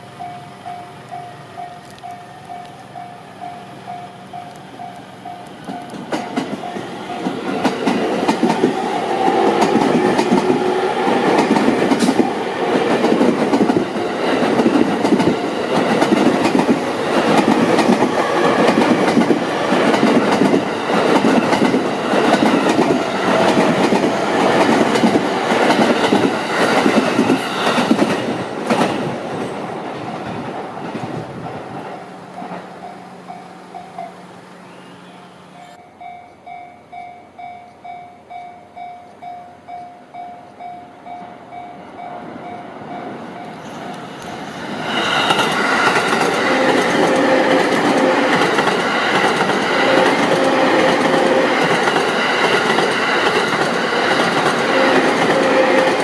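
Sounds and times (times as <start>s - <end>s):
train wheels clicking on rails: 0.1s - 34.2s, 43.4s - 56.0s.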